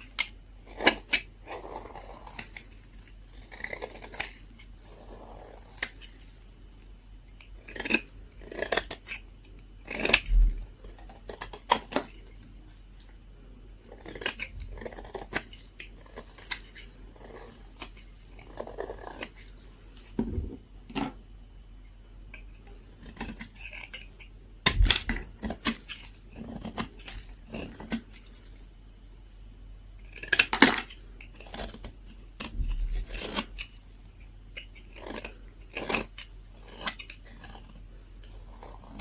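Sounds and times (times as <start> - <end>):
blade scraping dry soap: 0.0 - 6.4, 7.4 - 12.8, 13.8 - 19.7, 22.6 - 28.4, 30.0 - 33.8, 34.5 - 39.0.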